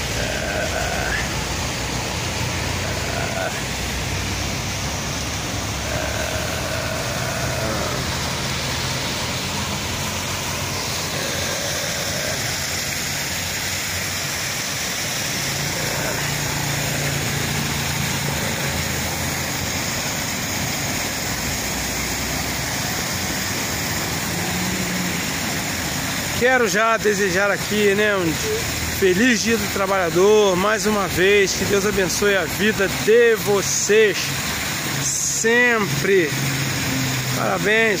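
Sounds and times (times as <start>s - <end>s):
road traffic passing: 0.0s - 38.0s.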